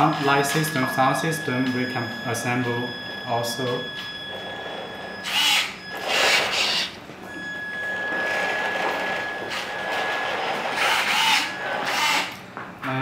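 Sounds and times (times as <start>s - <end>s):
electric motor and gears whirring: 0.0s - 12.5s.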